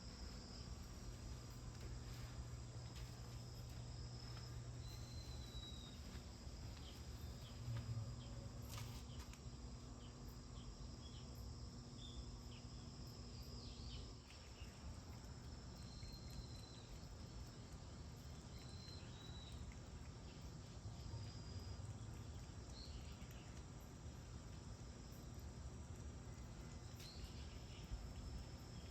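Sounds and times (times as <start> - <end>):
insects chirping: 0.0 - 28.9.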